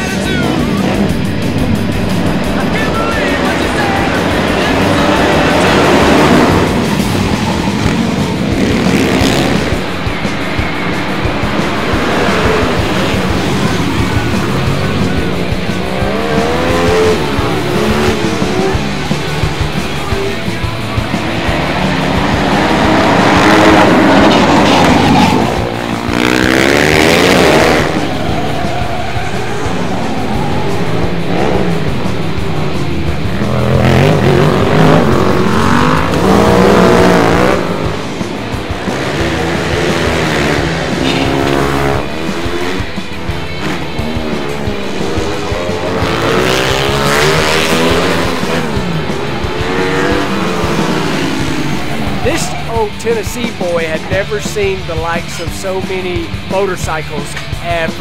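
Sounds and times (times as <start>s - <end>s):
music: 0.0s - 58.0s
racing motorcycles passing: 0.0s - 58.0s.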